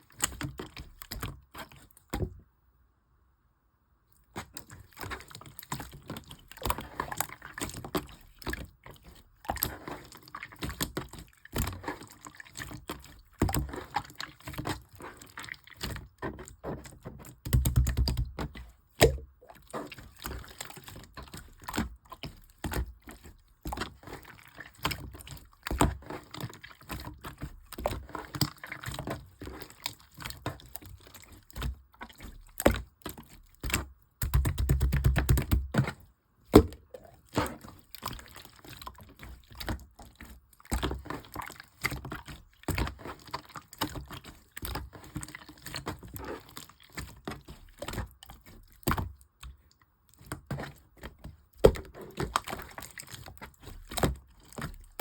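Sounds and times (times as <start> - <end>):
slime squelching and popping: 4.2 - 49.6, 50.2 - 55.0.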